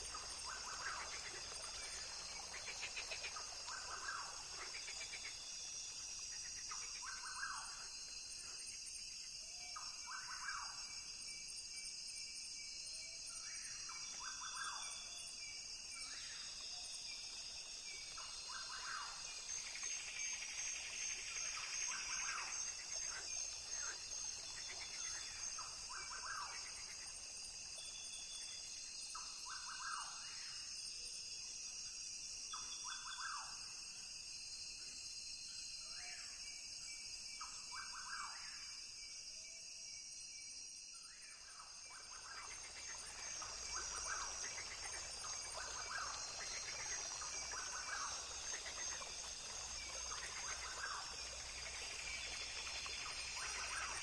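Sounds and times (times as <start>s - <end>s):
high drone of insects: 0.0s - 54.0s.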